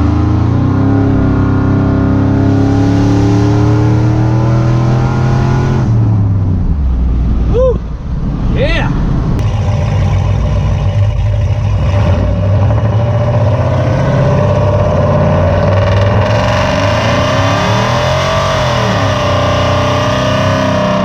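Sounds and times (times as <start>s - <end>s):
loud engine with straight pipes: 0.0s - 21.0s.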